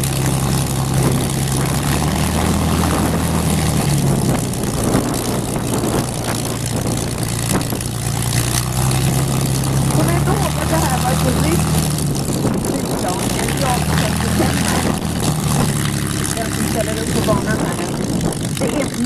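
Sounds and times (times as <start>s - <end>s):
propeller aircraft engine running: 0.0s - 19.0s.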